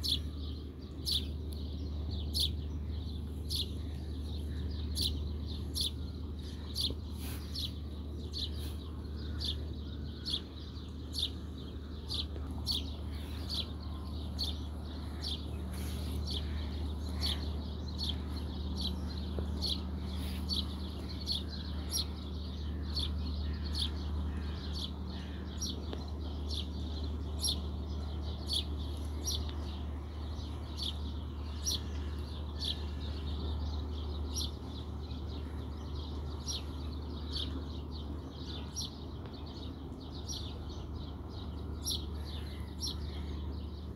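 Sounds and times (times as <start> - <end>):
bird chirping: 0.0 - 43.9
low drone: 0.0 - 43.9.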